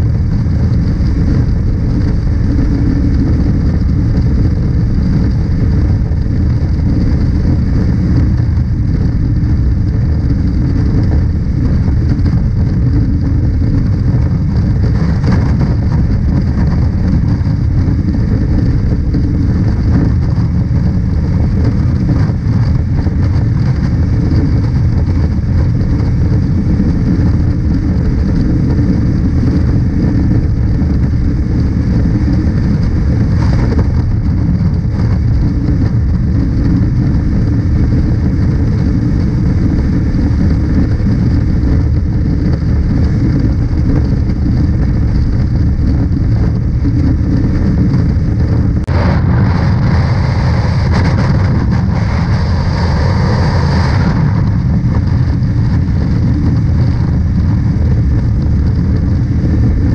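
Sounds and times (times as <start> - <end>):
motorcycle engine drone: 0.0 - 59.9
wind rushing on camera: 0.0 - 59.9.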